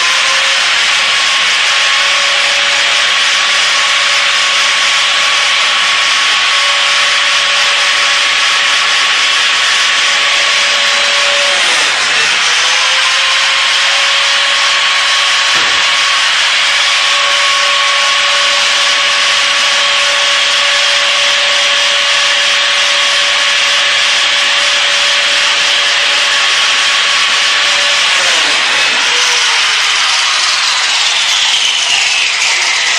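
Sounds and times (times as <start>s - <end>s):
electric motor whining: 0.0s - 32.9s.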